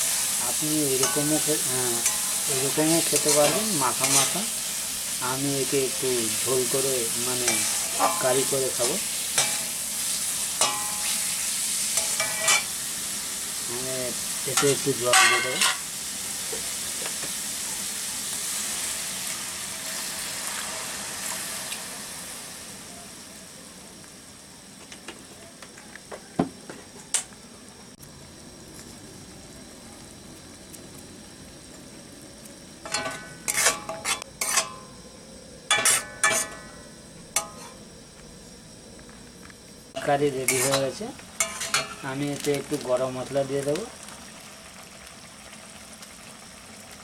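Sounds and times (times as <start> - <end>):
sizzling and simmering: 0.0 - 47.0.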